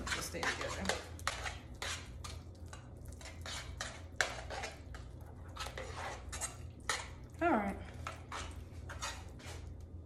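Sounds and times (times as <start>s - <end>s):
utensil scraping mixing bowl: 0.0s - 10.0s.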